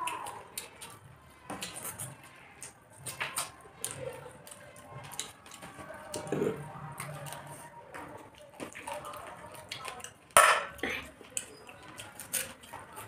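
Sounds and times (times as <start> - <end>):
chewing: 0.0 - 13.0
fingers mixing food on plastic plates: 0.0 - 13.0.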